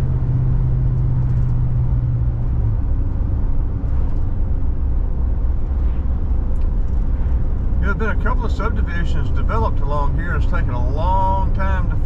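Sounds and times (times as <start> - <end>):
car engine and tyre rumble: 0.0 - 12.0
low engine hum: 0.0 - 12.0.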